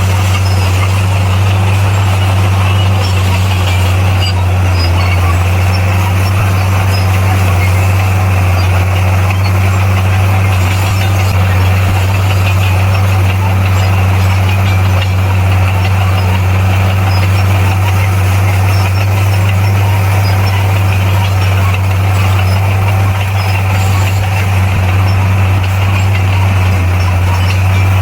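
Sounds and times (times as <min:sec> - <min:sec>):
bulldozer diesel engine droning: 0:00.0 - 0:28.0.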